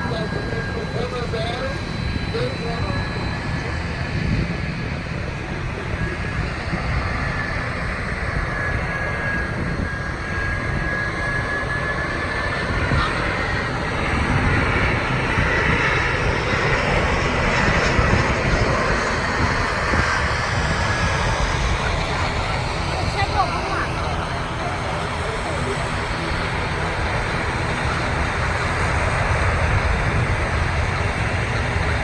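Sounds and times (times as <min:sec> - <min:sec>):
jet engines whining: 0:00.0 - 0:32.0.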